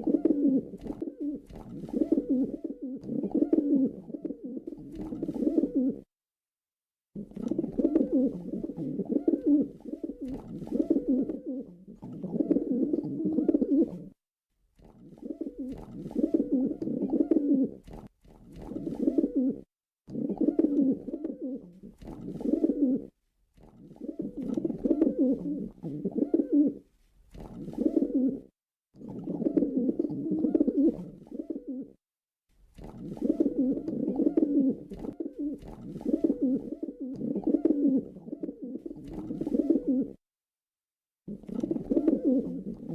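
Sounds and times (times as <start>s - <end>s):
pigeon cooing: 0.0s - 6.1s, 7.2s - 14.2s, 14.9s - 17.9s, 18.6s - 32.0s, 32.8s - 40.2s, 41.3s - 42.9s.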